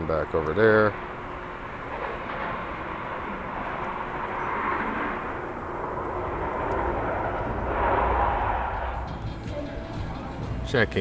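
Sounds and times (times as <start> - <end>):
steady rushing hum: 0.0 - 11.0.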